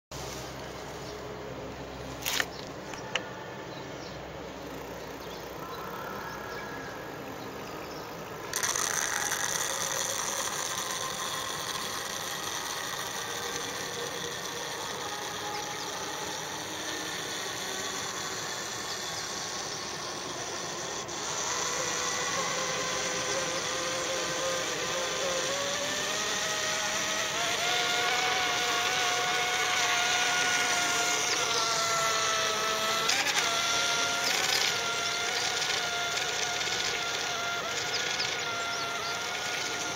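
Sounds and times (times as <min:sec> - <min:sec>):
electric motor buzzing whine: 0:00.2 - 0:39.9.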